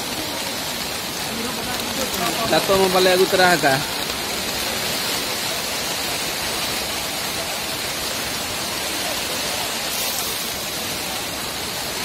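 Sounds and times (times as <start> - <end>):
heavy rain on tarpaulins: 0.0 - 12.0.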